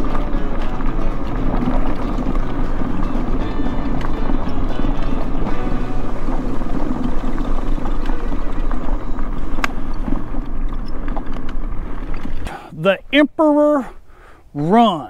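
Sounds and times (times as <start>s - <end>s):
mobility scooter motor running: 0.0s - 12.5s.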